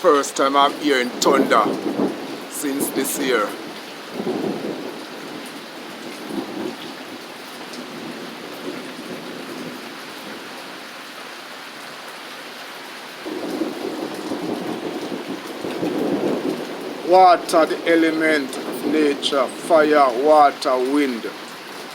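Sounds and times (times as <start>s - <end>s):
thunder rumbling: 0.0s - 10.4s, 13.2s - 21.6s
steady rain falling: 0.0s - 21.9s.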